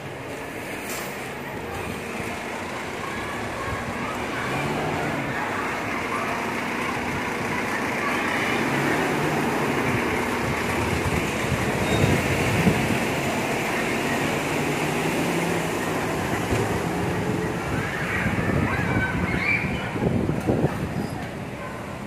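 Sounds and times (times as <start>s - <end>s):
truck diesel engine passing: 0.0s - 19.3s.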